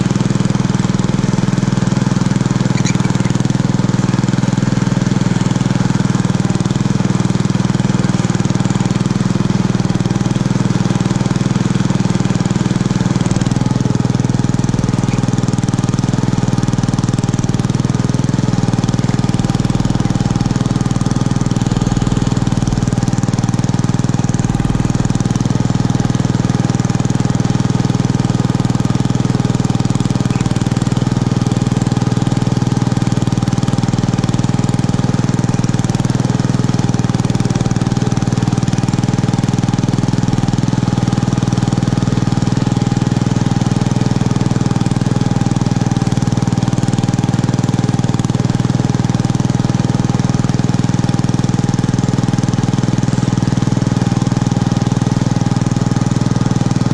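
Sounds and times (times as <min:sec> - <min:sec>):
small tractor engine running under load: 0:00.0 - 0:56.9.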